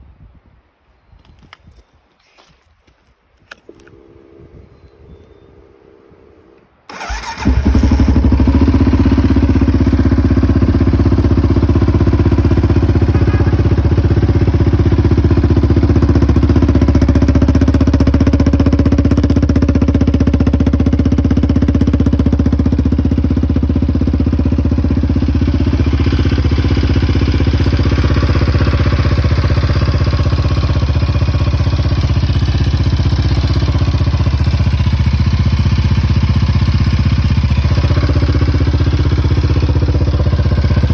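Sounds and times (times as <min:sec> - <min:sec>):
four-stroke engine starting and running: 0:03.6 - 0:40.9.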